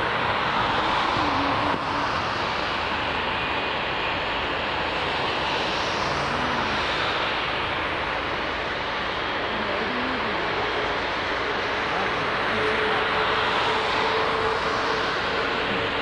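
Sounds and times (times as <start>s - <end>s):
jet engine roar and hiss: 0.0s - 16.0s.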